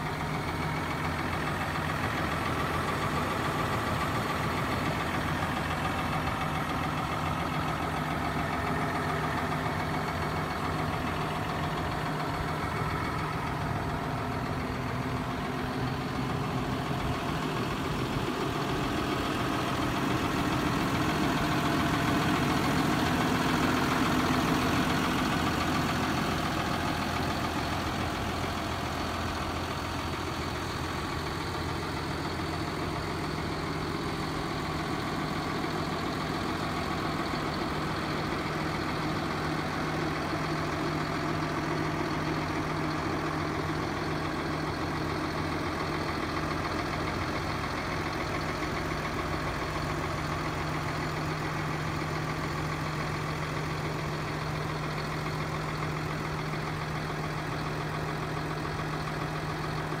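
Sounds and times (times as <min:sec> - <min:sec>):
tractor diesel engine idling: 0:00.0 - 1:00.0.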